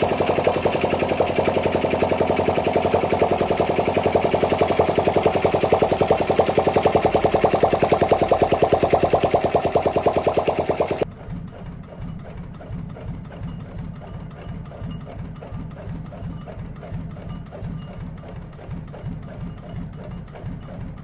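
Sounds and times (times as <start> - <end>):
motorcycle engine idling: 0.0 - 21.0
regular engine tapping: 0.0 - 21.0.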